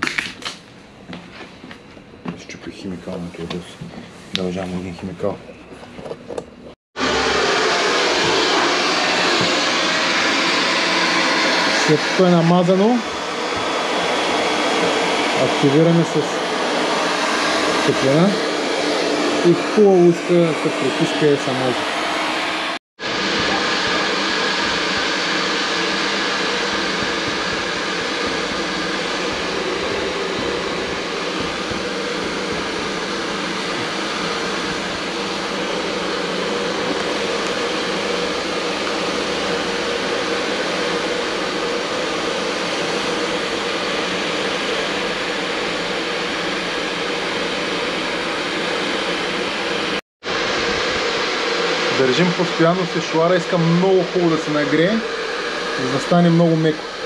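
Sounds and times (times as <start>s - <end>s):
hair dryer running: 6.9s - 57.0s.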